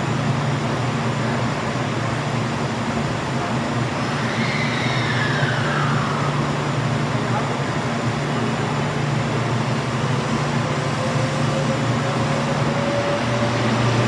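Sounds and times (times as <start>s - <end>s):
electric train low hum: 0.0s - 14.0s
train high whine: 0.0s - 14.0s.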